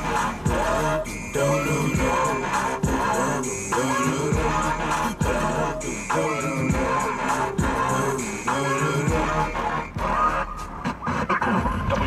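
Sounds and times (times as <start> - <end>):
music on car radio with deep bass: 0.0 - 12.0.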